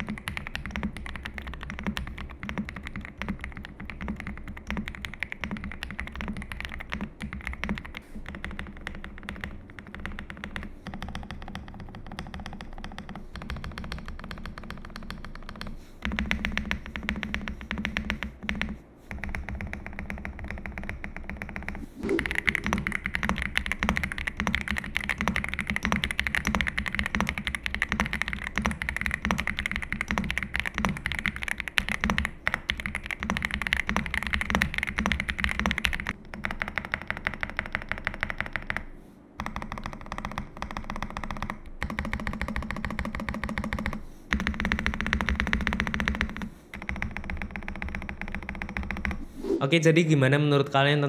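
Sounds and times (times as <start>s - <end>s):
typing on mechanical keyboards: 0.0s - 49.2s.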